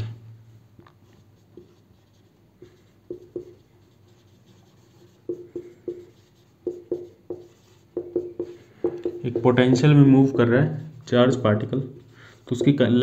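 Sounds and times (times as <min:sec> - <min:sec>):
marker squeaking on whiteboard: 0:01.1 - 0:13.0.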